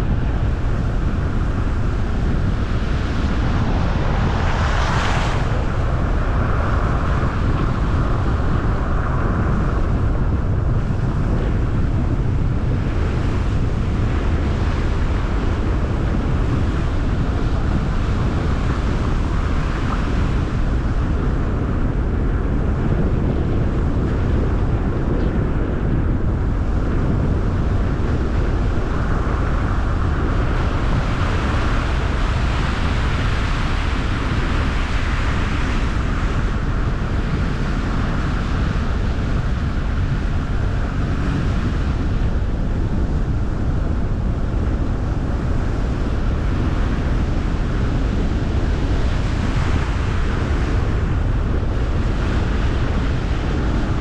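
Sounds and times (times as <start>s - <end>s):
car road rumble: 0.0s - 54.0s.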